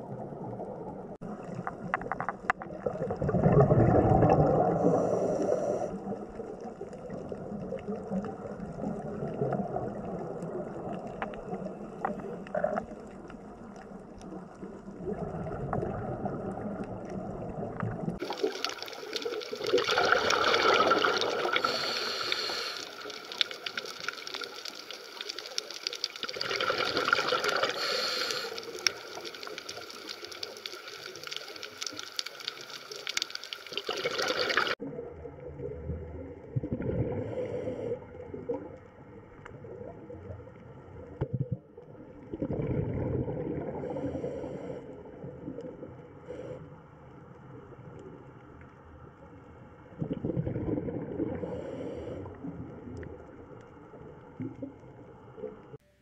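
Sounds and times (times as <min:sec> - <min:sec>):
underwater bubbling: 0:00.0 - 0:55.9.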